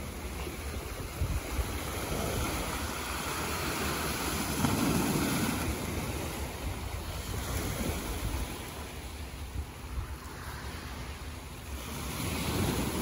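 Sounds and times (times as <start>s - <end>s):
small waves washing against rocks: 0.0s - 13.0s
wind buffeting microphone: 0.0s - 13.0s.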